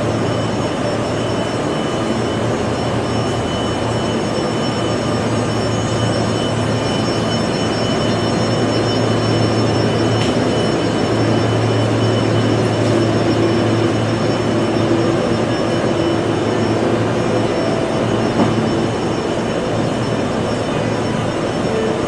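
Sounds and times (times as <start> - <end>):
electric train humming and whining: 0.0 - 22.0.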